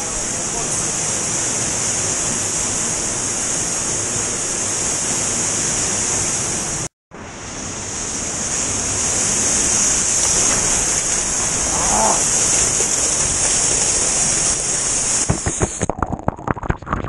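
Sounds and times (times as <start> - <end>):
river rushing down waterfall: 0.0 - 15.2.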